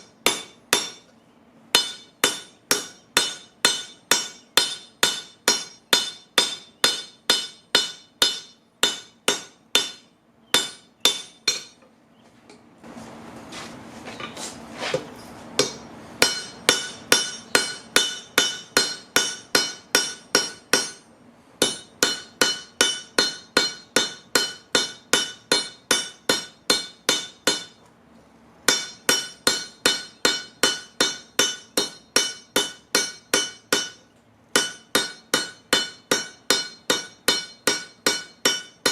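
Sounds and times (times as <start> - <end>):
hammer striking metal anvil: 0.0 - 1.1, 1.7 - 11.8, 15.6 - 27.8, 28.7 - 38.9.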